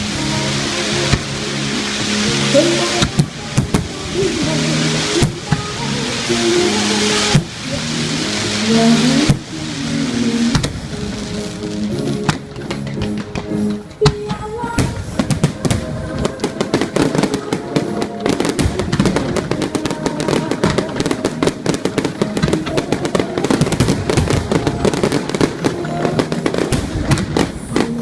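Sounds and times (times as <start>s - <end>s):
fireworks bangs and crackles: 0.0s - 28.0s
music: 0.0s - 28.0s.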